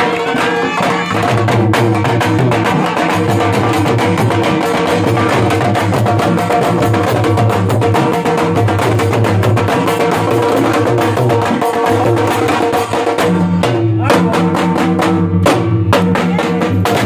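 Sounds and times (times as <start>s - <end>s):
drums beaten with sticks: 0.0s - 17.0s.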